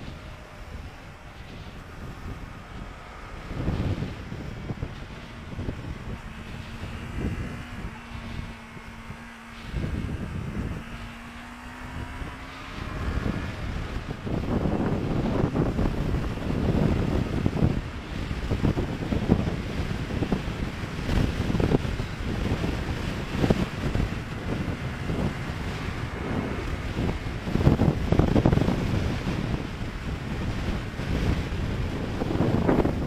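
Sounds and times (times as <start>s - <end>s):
motorcycle engine hum: 0.0s - 33.0s
wind buffeting microphone: 0.0s - 33.0s.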